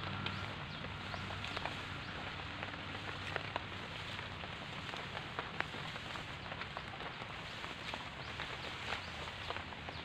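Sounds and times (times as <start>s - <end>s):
rain on grass and leaves: 0.0s - 10.0s
sharp ticks of raindrops: 0.0s - 10.0s.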